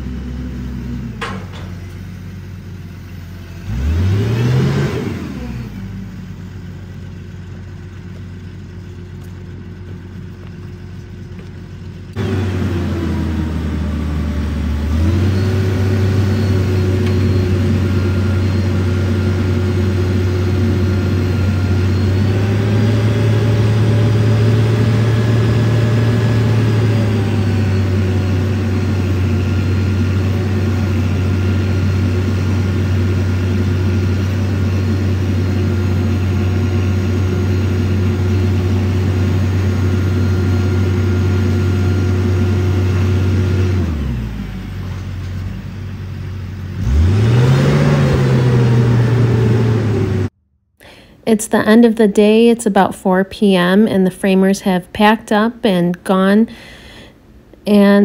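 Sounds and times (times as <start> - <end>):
engine rev: 0.0 - 8.0, 8.8 - 52.4
crane engine running: 0.0 - 58.0.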